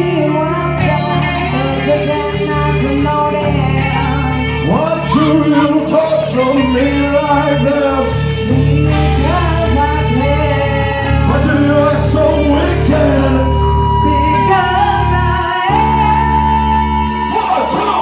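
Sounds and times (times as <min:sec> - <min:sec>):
live rock band playing: 0:00.0 - 0:18.0
woman and man singing: 0:00.0 - 0:18.0.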